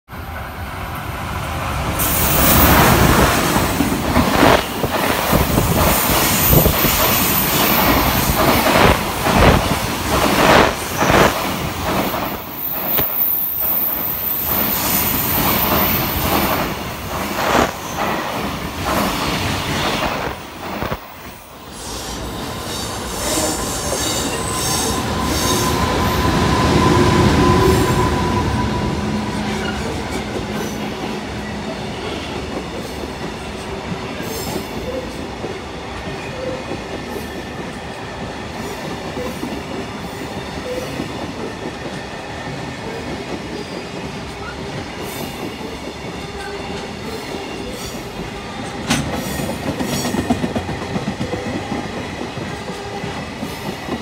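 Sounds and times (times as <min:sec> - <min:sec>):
freight train passing at speed: 0:00.1 - 0:54.0.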